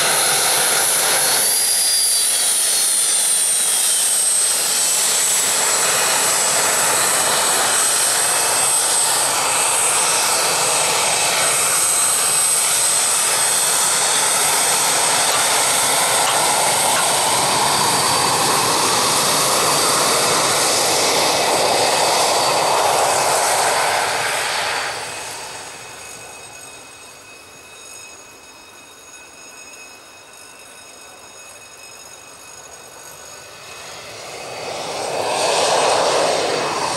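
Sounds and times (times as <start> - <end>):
jet taxiing with high whine: 0.0 - 36.9.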